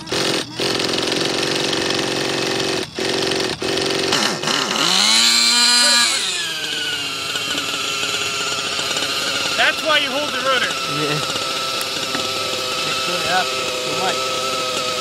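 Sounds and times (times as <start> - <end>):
model helicopter engine buzzing: 0.0 - 15.0.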